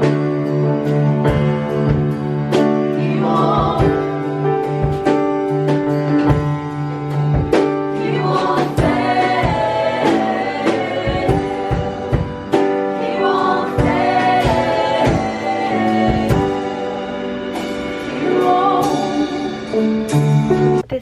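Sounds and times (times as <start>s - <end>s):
song with layered singing: 0.0s - 20.6s.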